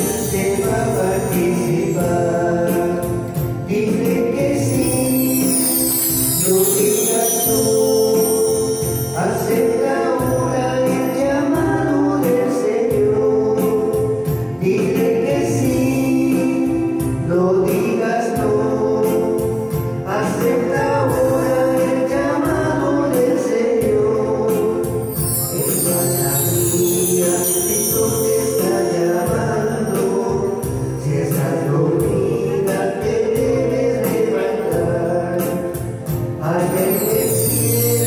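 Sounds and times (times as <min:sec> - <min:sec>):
musical accompaniment: 0:00.0 - 0:38.0.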